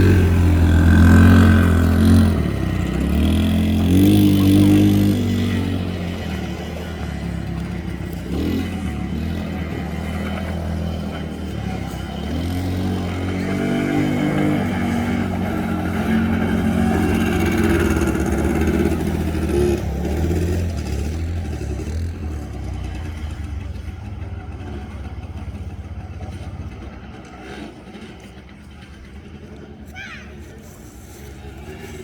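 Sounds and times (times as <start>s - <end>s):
quad bike engine revving: 0.0s - 32.0s.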